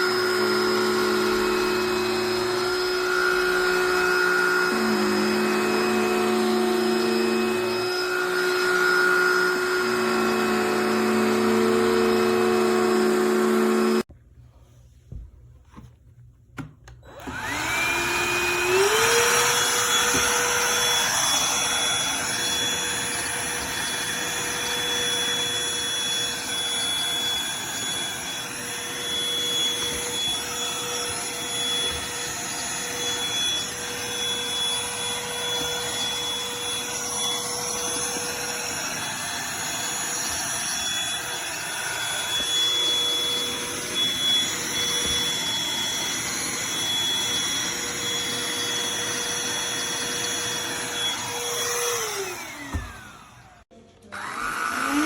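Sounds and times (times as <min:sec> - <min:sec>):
handheld vacuum cleaner running: 0:00.0 - 0:14.1, 0:17.0 - 0:55.0.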